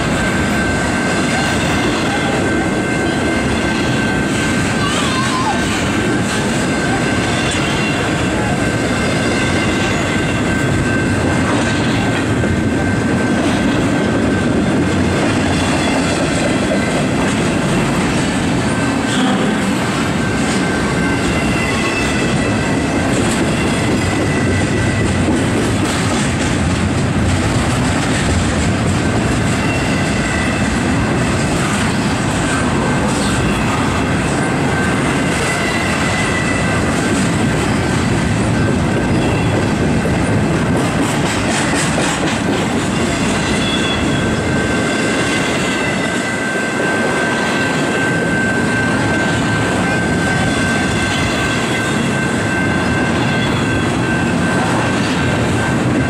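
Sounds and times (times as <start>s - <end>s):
freight train wheels on rail: 0.0s - 56.0s.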